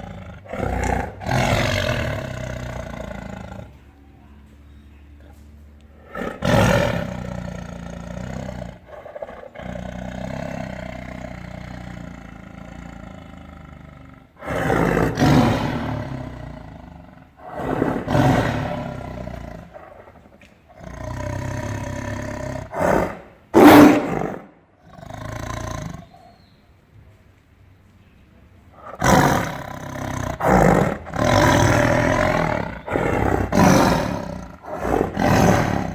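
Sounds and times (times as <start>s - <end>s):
tiger roaring: 0.0s - 3.9s, 5.8s - 26.2s, 28.7s - 35.9s.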